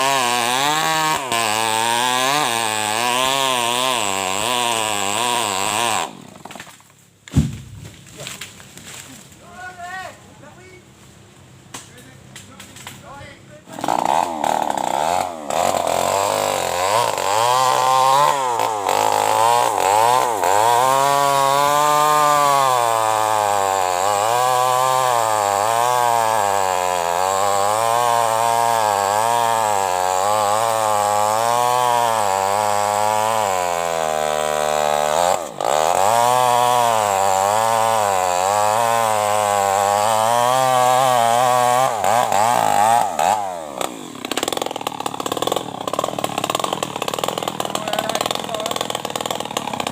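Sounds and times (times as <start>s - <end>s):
chainsaw cutting into tree: 0.0s - 9.4s, 13.7s - 49.9s.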